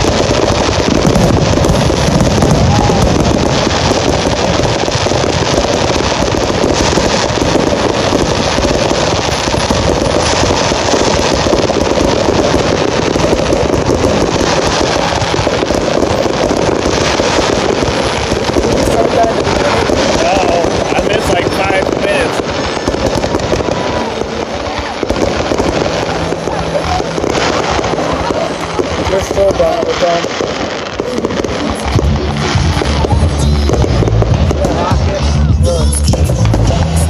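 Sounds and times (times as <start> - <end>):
fireworks crackling: 0.0 - 37.0.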